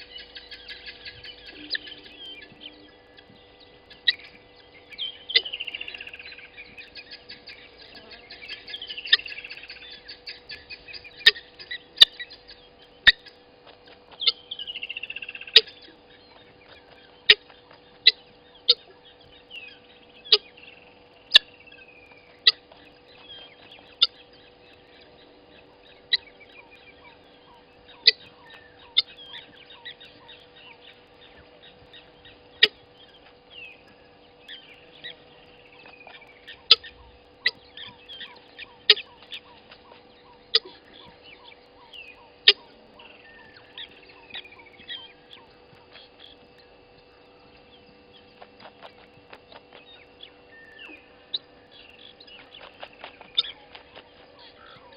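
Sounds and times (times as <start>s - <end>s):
birds chirping and calling: 0.0s - 54.9s
faint steady hum: 0.0s - 54.9s.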